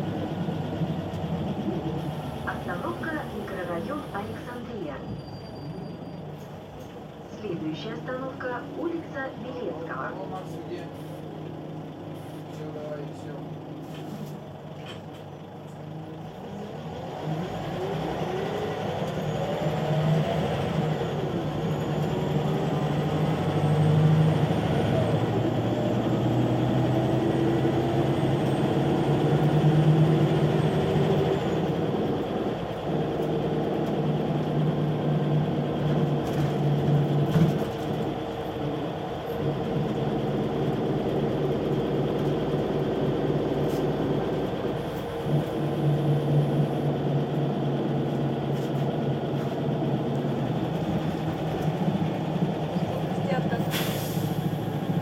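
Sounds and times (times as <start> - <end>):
bus engine: 0.0 - 55.0.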